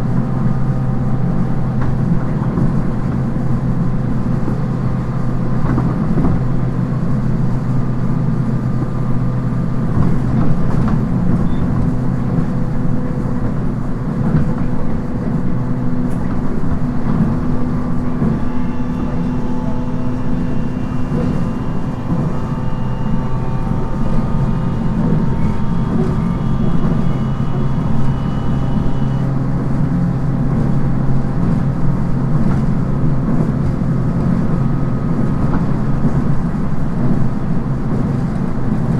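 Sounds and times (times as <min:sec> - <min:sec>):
traction motor hum: 0:00.0 - 0:38.8
train wheels rumbling on rail: 0:00.0 - 0:38.9.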